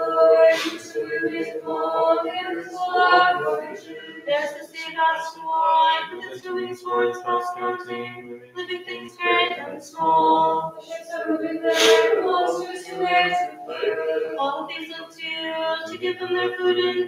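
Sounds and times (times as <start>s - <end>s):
voices chanting a hymn: 0.0s - 17.0s.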